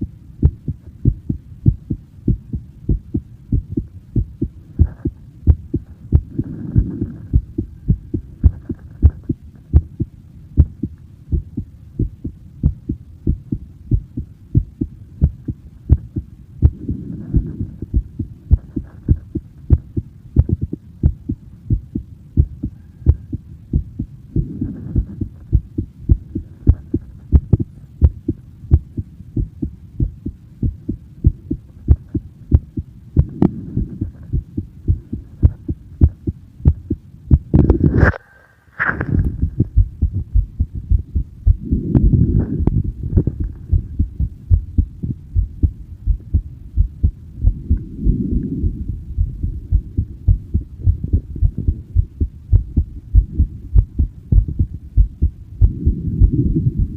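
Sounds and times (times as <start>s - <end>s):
heartbeat thumps: 0.4s - 38.0s, 39.1s - 56.9s.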